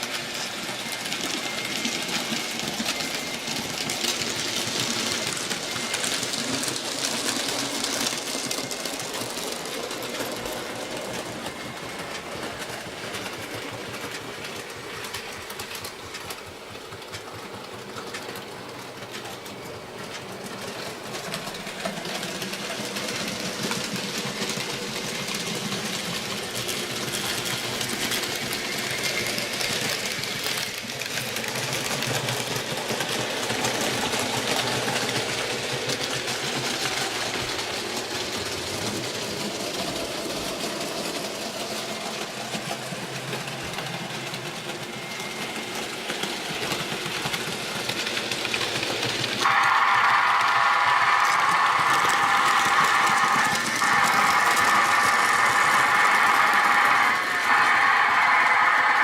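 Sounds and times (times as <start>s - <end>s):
wheels ticking over rail joints: 0.1s - 49.5s.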